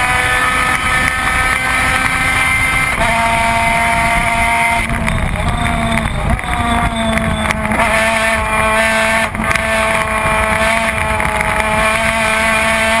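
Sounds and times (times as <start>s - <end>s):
race car engine at high revs: 0.0s - 13.0s
wind on microphone: 0.0s - 13.0s.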